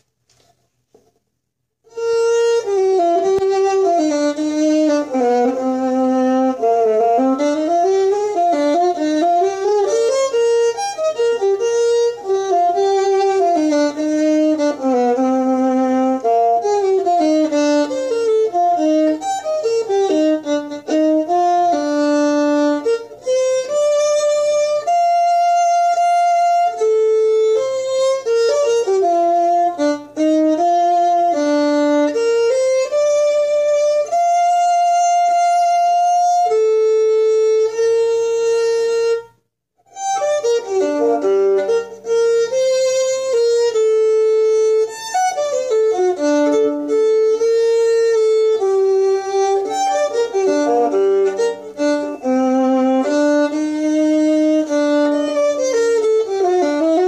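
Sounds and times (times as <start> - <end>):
solo violin playing folk tune: 1.8 - 57.0.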